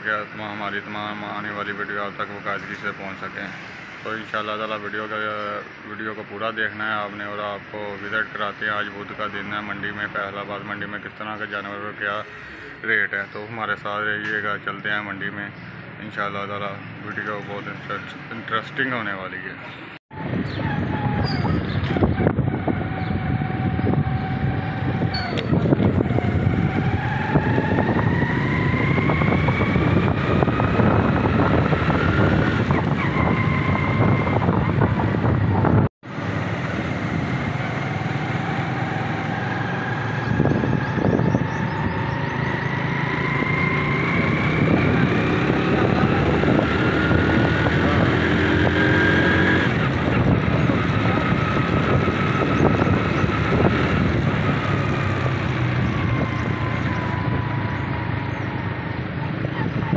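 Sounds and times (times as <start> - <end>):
road and wind noise: 0.0 - 59.9
vehicle engine whine: 0.0 - 59.9.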